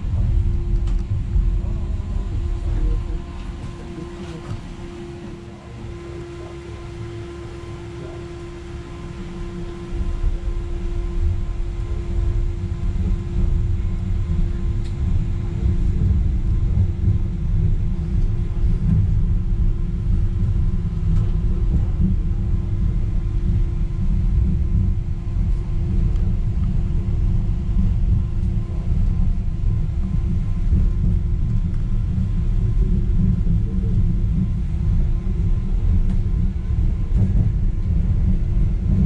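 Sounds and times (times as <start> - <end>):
constant hum: 0.0 - 39.0
suspended train rumbling on rail: 0.0 - 39.0.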